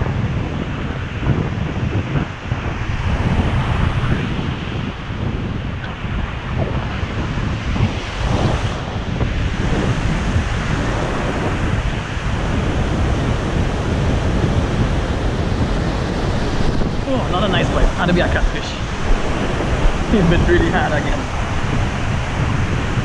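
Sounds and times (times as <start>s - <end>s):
surf washing over sand: 0.0s - 23.0s
wind buffeting microphone: 0.0s - 23.0s.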